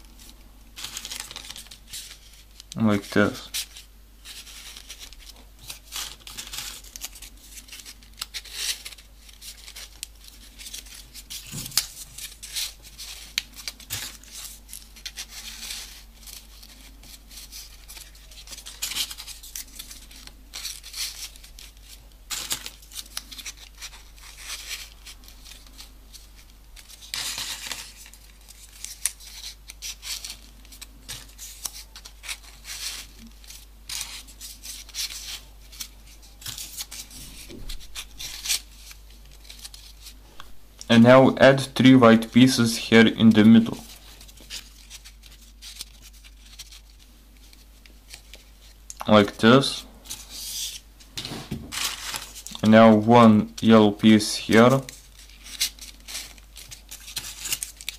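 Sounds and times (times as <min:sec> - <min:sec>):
paper rustling and crinkling: 0:00.0 - 0:40.6, 0:41.5 - 0:57.9.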